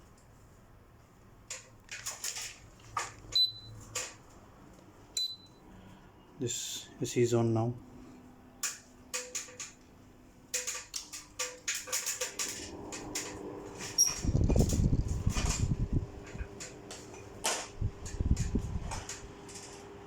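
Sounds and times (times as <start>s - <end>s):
air conditioner hum: 0.0s - 20.0s.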